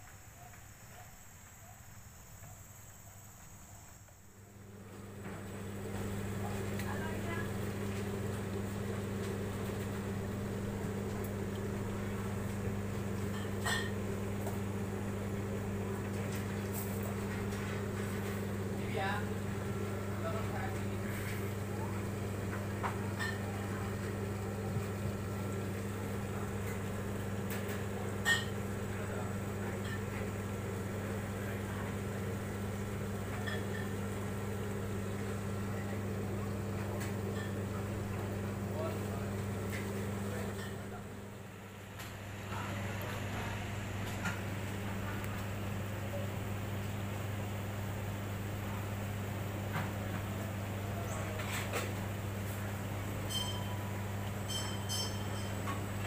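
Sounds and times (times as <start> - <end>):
electrical motor hum: 0.0 - 56.0.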